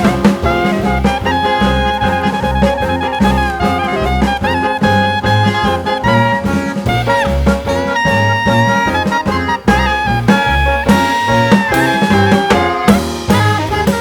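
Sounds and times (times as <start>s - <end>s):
upbeat swing jazz with brass: 0.0s - 14.0s.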